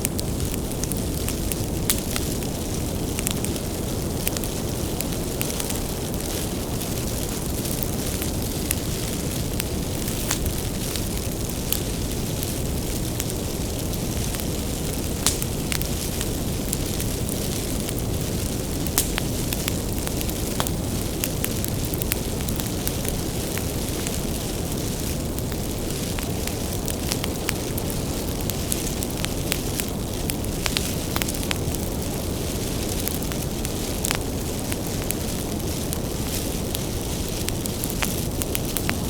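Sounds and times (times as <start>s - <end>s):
bonfire low rumble: 0.0s - 39.0s
firewood crackling and popping: 0.0s - 39.0s.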